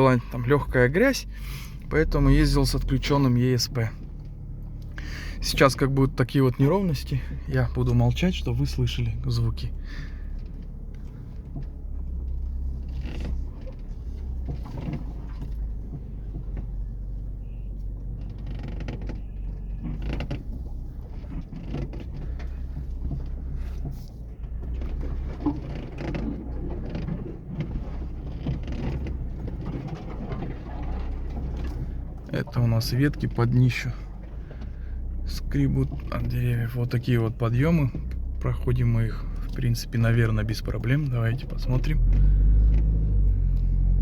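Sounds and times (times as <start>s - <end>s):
low engine and road drone: 0.0s - 44.0s
car body creaking and knocking: 3.5s - 44.0s.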